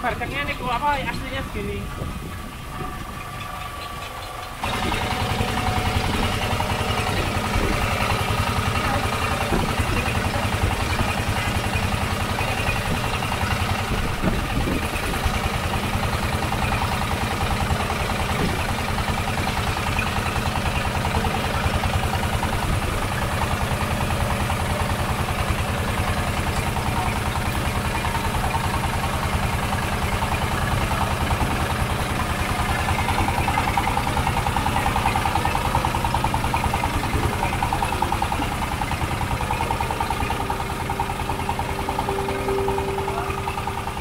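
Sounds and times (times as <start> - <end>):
boat engine idling: 0.0 - 44.0.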